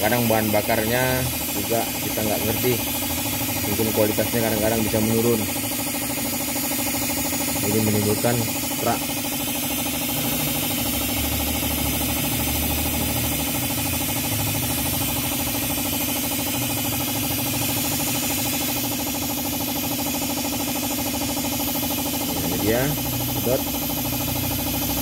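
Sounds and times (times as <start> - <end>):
air compressor running: 0.0 - 25.0
hiss of vacuum tool sucking fluid: 0.0 - 25.0.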